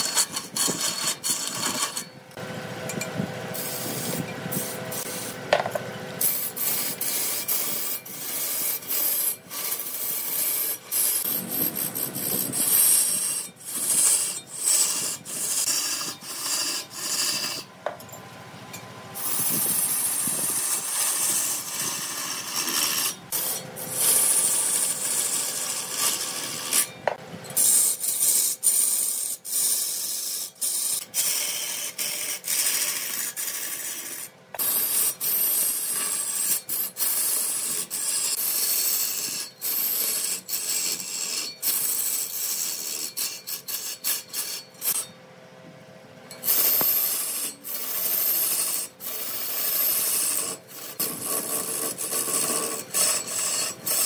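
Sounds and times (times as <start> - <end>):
wood cut on a lathe: 0.0 - 17.7, 19.2 - 45.1, 46.5 - 54.0.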